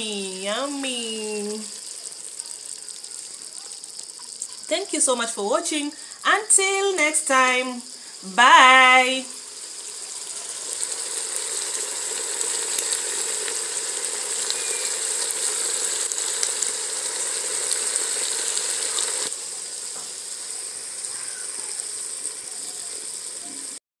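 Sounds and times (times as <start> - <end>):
food sizzling in hot oil: 0.0 - 23.8.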